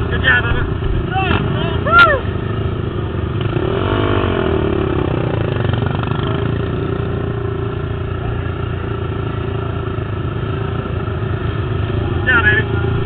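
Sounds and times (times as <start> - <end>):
racing quad engines: 0.0 - 13.0.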